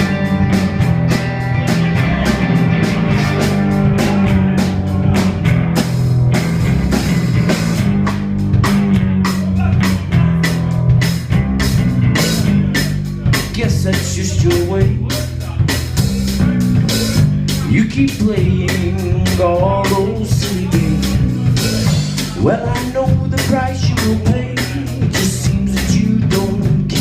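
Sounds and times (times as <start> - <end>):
drum kit beat: 0.0 - 27.0
heavy bass line: 0.0 - 27.0
rock guitar: 0.0 - 27.0.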